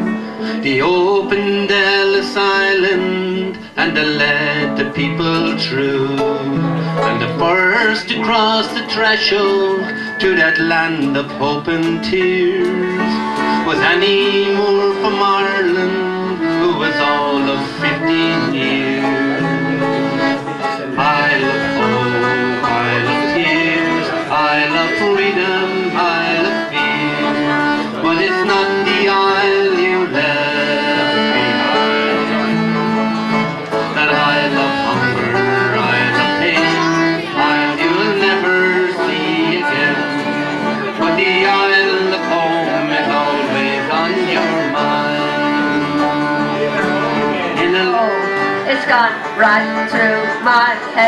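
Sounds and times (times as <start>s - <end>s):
accordion melody: 0.0s - 51.0s
banjo: 0.0s - 51.0s
strummed acoustic guitar: 0.0s - 51.0s.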